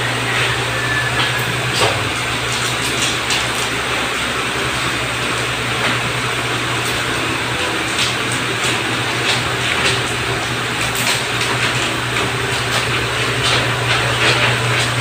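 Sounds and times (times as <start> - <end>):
whirring machine hum: 0.0 - 15.0.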